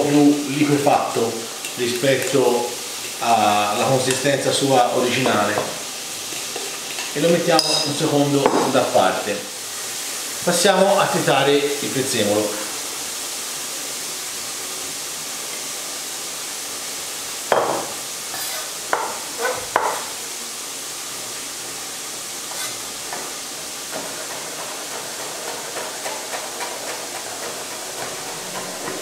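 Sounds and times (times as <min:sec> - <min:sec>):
meat sizzling in a pan: 0:00.0 - 0:29.0.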